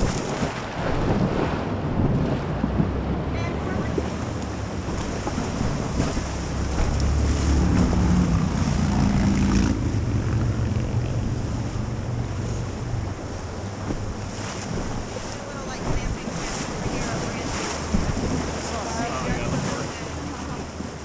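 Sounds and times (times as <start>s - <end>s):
river water rushing: 0.0s - 21.0s
wind buffeting microphone: 0.0s - 21.0s.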